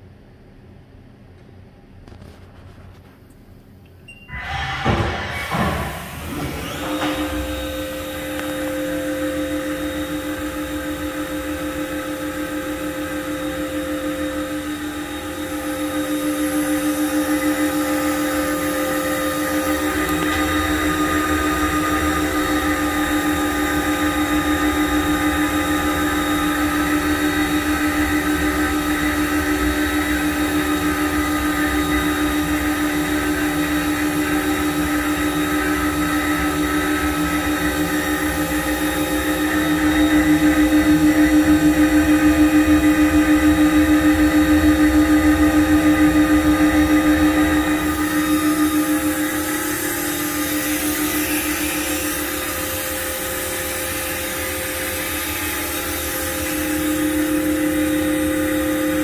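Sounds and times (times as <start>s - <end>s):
machine hum with held tones: 0.0s - 59.0s.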